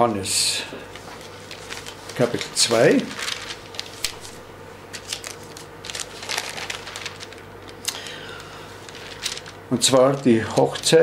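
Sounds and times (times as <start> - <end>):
faint hum: 0.0 - 11.0
paper pages rustling: 0.9 - 11.0.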